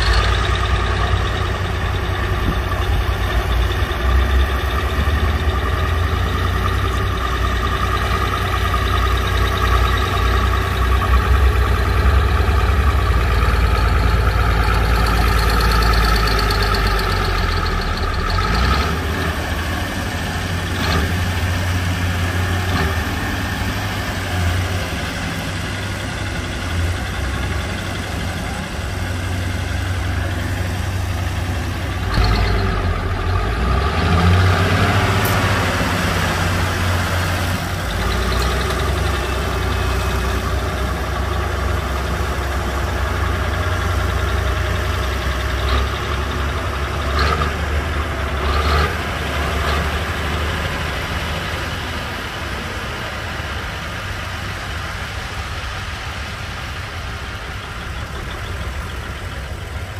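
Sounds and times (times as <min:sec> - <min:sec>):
bulldozer diesel engine rumbling: 0:00.0 - 0:59.9.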